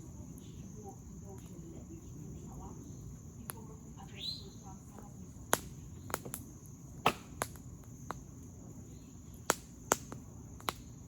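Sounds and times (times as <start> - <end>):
campfire wood crackling: 0.0 - 11.0.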